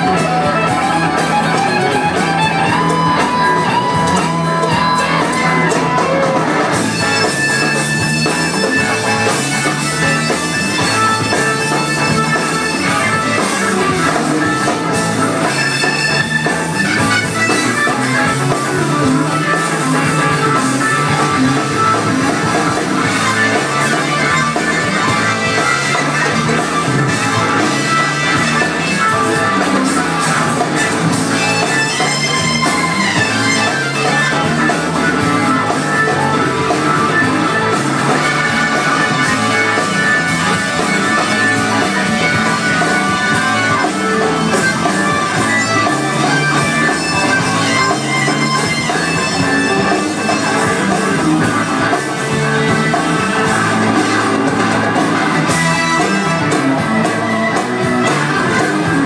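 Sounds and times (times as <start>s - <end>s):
bass: 0.0s - 59.0s
drum kit: 0.0s - 59.0s
electric guitar: 0.0s - 59.0s
keyboards: 0.0s - 59.0s
live rock band playing: 0.0s - 59.0s.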